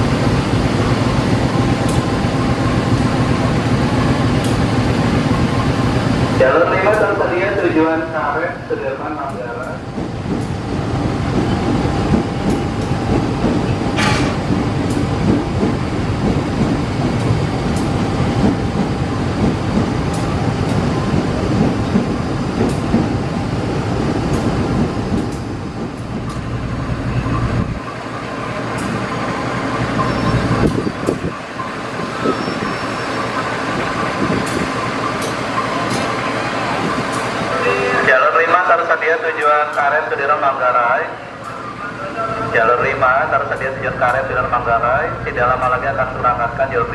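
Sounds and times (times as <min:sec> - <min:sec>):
locomotive rumbling on rails: 0:00.0 - 0:46.9.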